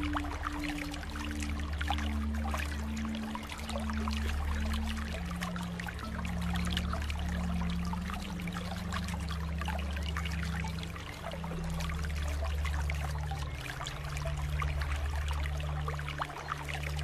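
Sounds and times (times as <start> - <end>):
aquarium water bubbling: 0.0 - 17.0
low steady hum: 0.0 - 17.0.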